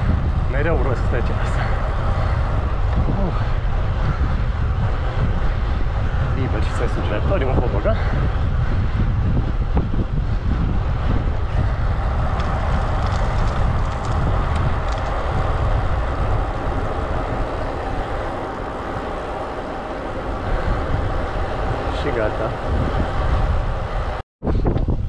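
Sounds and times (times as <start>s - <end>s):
tyre and road noise: 0.0s - 25.0s
wind buffeting microphone: 0.0s - 25.0s.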